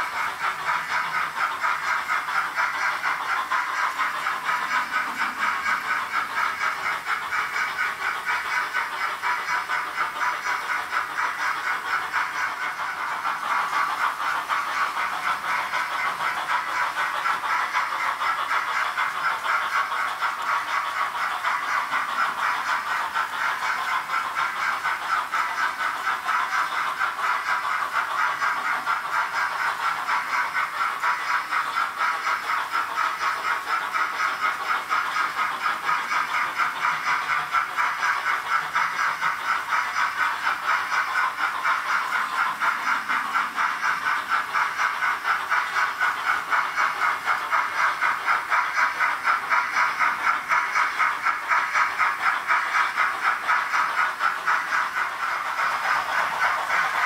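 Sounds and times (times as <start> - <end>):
model steam train chuffing: 0.0 - 57.0.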